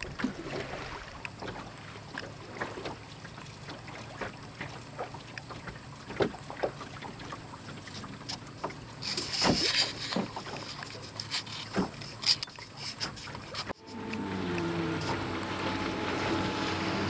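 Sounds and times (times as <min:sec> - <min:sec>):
water splashing against hull: 0:00.0 - 0:17.0.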